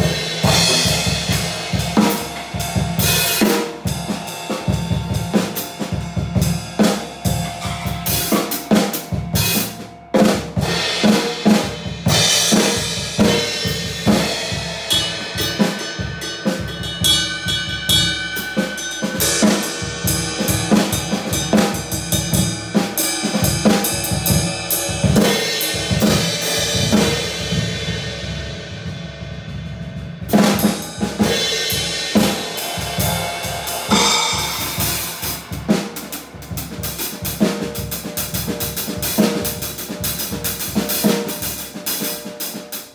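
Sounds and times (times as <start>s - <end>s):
cymbals ringing: 0.0s - 27.7s, 30.6s - 39.2s
snare and bass drum strokes: 0.0s - 42.9s.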